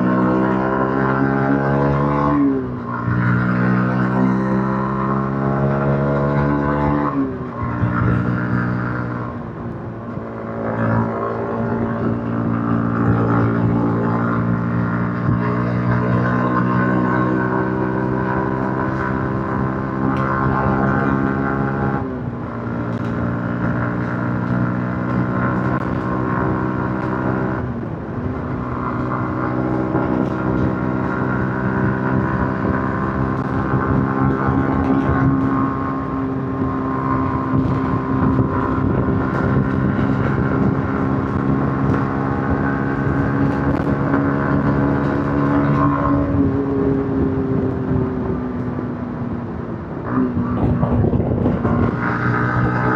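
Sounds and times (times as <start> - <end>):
motorcycle engine while riding: 0.0 - 52.9.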